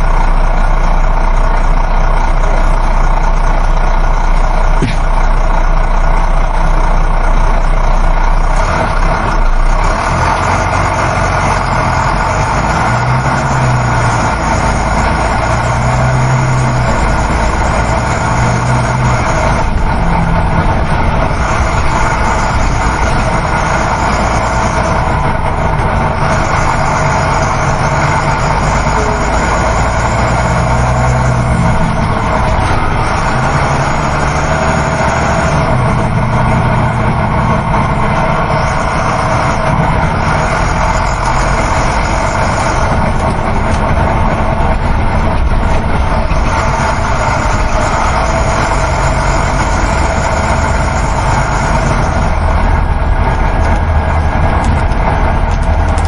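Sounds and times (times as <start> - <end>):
bus engine drone: 0.0 - 56.0
low hum: 0.0 - 56.0
road and wind noise: 0.0 - 56.0.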